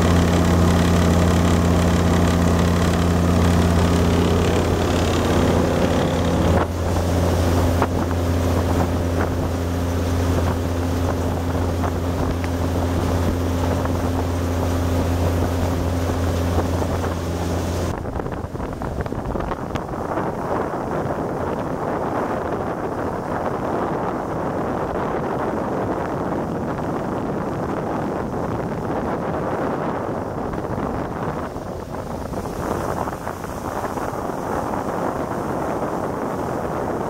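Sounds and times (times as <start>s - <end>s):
boat engine drone: 0.0s - 26.3s, 27.4s - 37.0s
hull rushing through water: 0.0s - 37.0s
wind on microphone: 0.0s - 37.0s.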